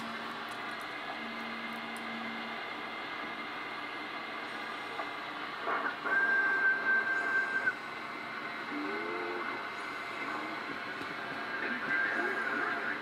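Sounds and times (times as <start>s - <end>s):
radio band noise hiss: 0.0s - 13.0s
faint low radio tone: 1.1s - 13.0s.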